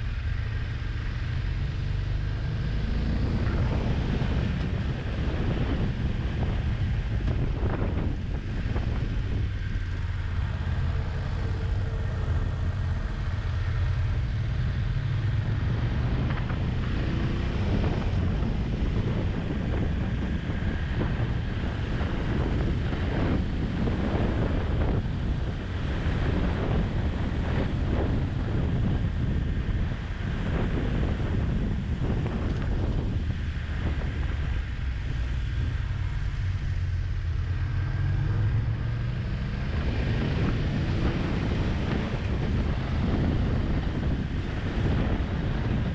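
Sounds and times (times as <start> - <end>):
motorcycle engine running: 0.0 - 45.9
wind buffeting microphone: 2.4 - 45.9.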